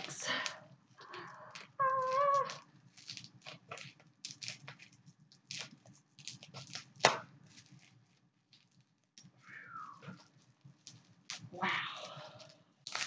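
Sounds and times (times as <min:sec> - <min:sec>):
plastic packaging crackling and tearing: 0:00.0 - 0:09.4, 0:10.0 - 0:13.0.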